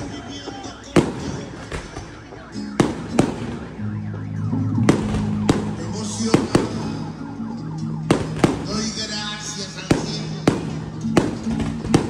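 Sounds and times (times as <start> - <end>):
firework bangs: 0.0 - 7.2, 8.0 - 12.0.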